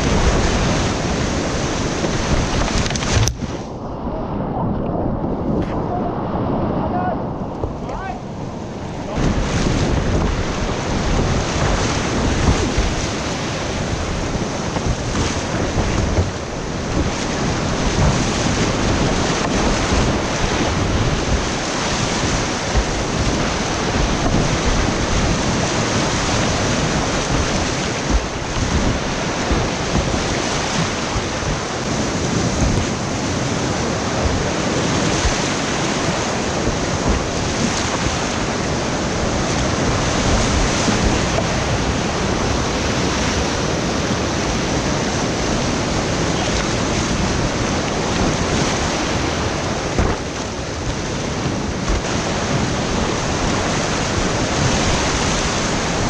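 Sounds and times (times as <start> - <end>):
whitewater rapids rushing: 0.0 - 4.7, 5.6 - 56.0
wind buffeting microphone: 0.0 - 56.0.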